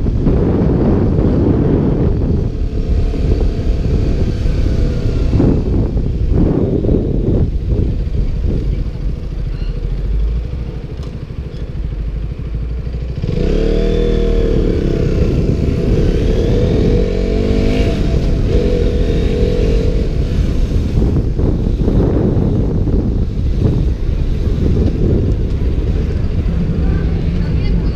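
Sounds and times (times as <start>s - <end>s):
motorcycle engine revving: 0.0s - 27.9s
wind buffeting microphone: 0.0s - 27.9s.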